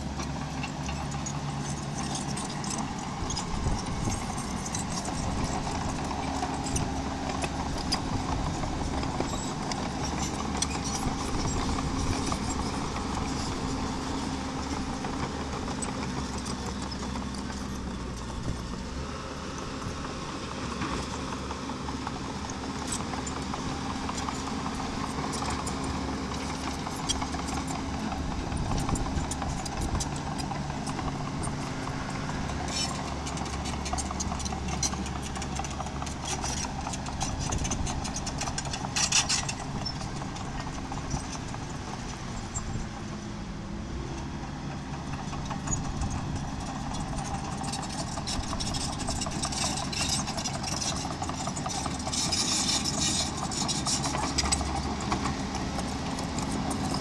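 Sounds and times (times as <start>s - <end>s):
dozer engine running: 0.0s - 57.0s.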